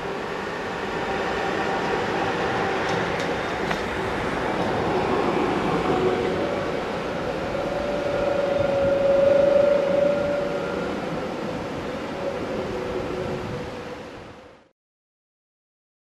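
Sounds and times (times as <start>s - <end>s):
wheel-on-rail rumble: 0.0s - 14.4s.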